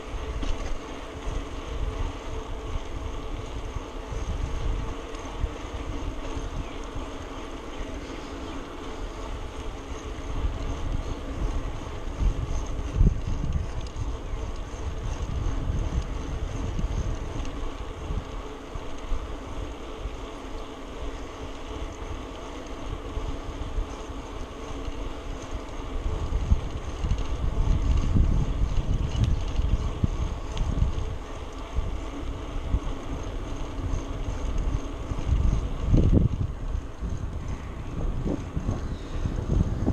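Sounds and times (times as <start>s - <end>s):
faint steady hum: 0.0s - 39.9s
wind buffeting microphone: 0.0s - 39.9s.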